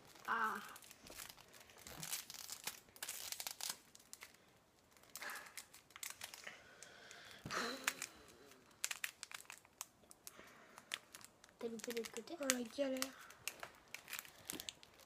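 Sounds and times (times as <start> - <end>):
wrappers crinkling and tearing: 0.0 - 15.0.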